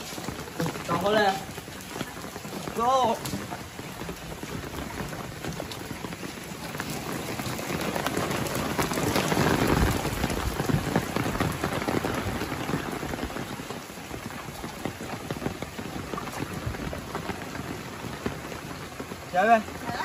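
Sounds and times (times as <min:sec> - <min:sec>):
heavy rain on umbrellas: 0:00.0 - 0:20.0.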